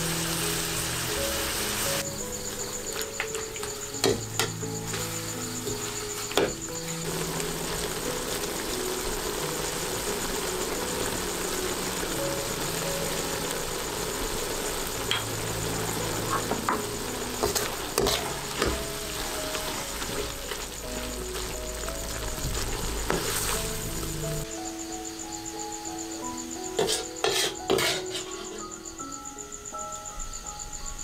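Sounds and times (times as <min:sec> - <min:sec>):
food sizzling in a wok: 0:00.0 - 0:30.7
soft background music: 0:00.0 - 0:31.0.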